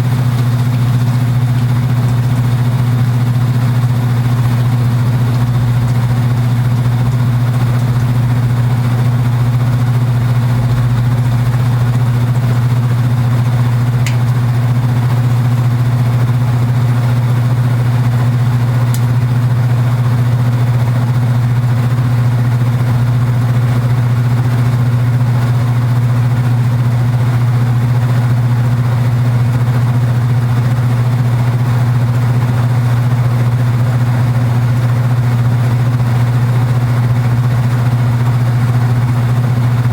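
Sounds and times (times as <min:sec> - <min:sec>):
washing machine buzzing: 0:00.0 - 0:39.9.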